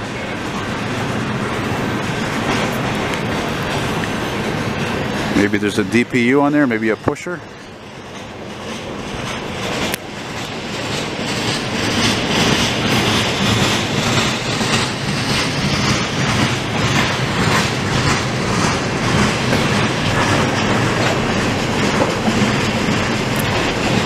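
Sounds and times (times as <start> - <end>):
clickety-clack over rail joints: 0.0 - 24.0
train wheels rumbling on rail: 0.0 - 24.0.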